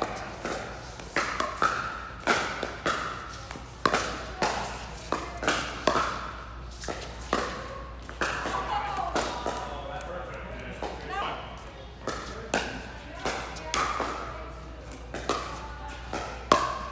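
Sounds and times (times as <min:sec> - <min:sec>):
paddles striking pickleball: 0:00.0 - 0:11.0, 0:12.0 - 0:16.9.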